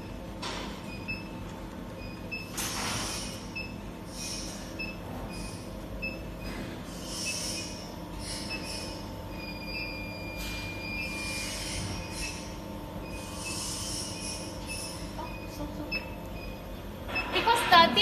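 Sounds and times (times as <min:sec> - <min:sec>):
induction heater steady tone: 0:00.0 - 0:18.0.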